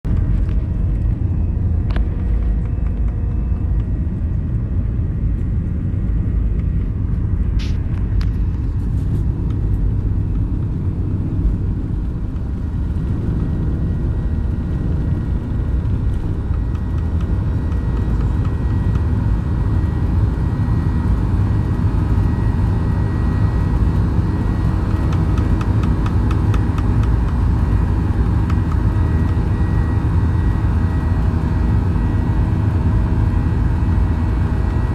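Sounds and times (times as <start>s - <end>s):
aircraft engines rumbling in cabin: 0.0s - 34.9s.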